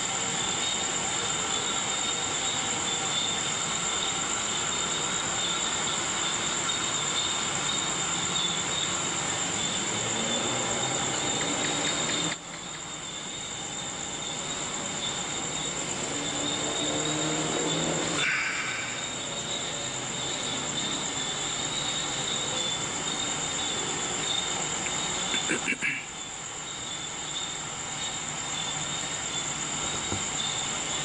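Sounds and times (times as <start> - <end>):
night insects chorus: 0.0 - 31.0.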